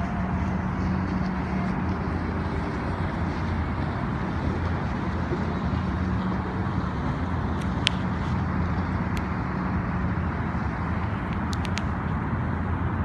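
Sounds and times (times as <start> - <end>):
low motor rumble: 0.0 - 13.0
outdoor noise: 0.0 - 13.0.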